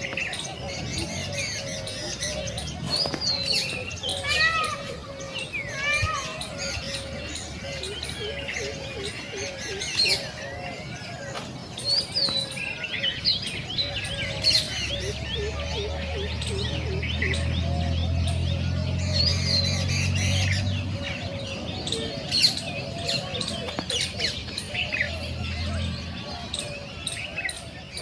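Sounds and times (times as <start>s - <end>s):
repeated lower bird calls: 0.0s - 28.0s
small birds chirping: 0.0s - 28.0s.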